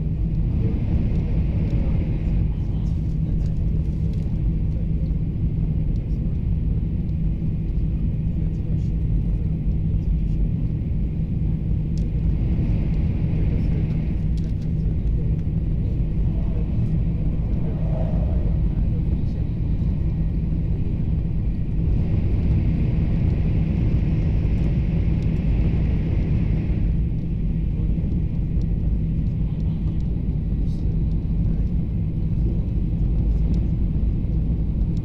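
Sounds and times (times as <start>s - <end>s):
train cabin deep rumble: 0.0s - 35.0s.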